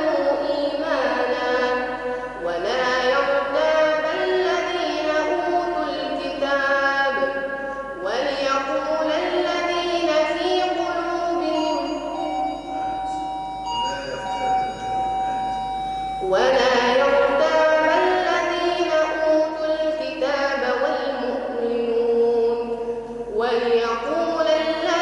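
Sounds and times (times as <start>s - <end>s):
boy reciting melodic chant: 0.0s - 13.1s, 16.2s - 25.0s.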